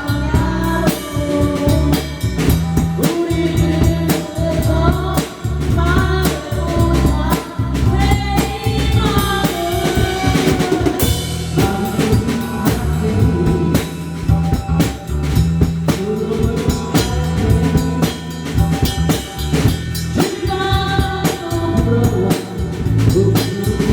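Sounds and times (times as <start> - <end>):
person singing: 0.0 - 19.6, 20.2 - 23.9
bass guitar: 0.0 - 23.9
drum kit playing: 0.0 - 23.9.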